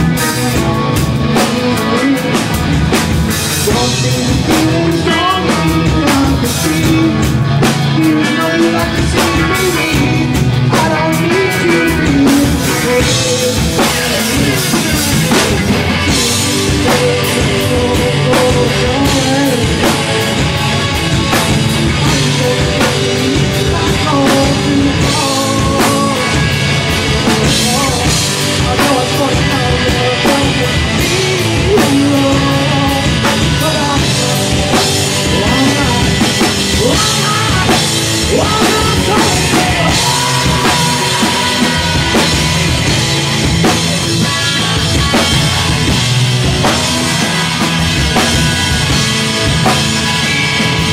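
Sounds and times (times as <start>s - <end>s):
bass guitar: 0.0s - 50.9s
drum kit: 0.0s - 50.9s
electric guitars: 0.0s - 50.9s.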